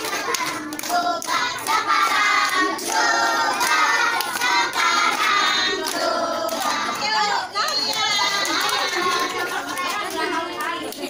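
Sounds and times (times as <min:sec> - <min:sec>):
children clapping: 0:00.0 - 0:11.0
children singing together: 0:00.0 - 0:11.0.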